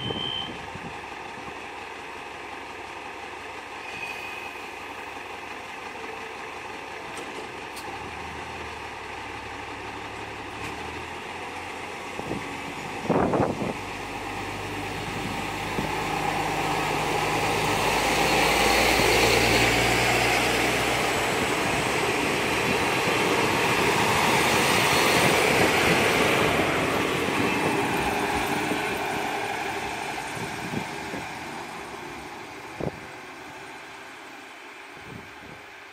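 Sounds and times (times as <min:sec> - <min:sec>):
diesel train engine running: 0:00.0 - 0:35.9
wheels rumbling on rails: 0:00.0 - 0:35.9.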